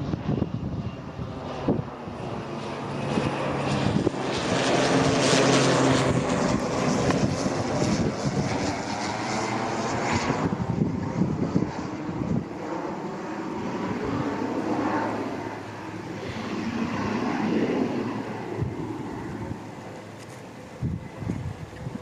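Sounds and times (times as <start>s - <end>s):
propeller airplane flying past: 0.0s - 22.0s.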